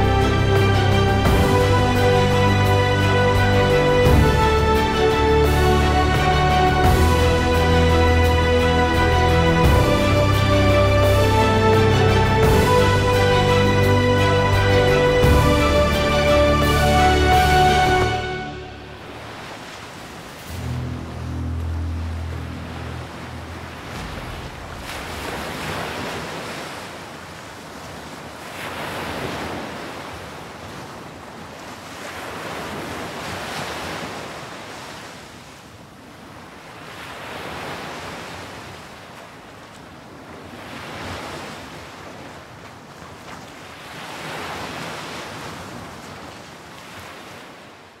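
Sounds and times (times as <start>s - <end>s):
ocean waves: 0.0s - 48.0s.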